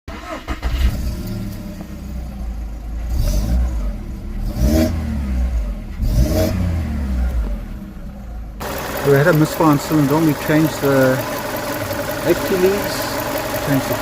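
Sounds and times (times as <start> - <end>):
car engine revving: 0.1 - 14.0.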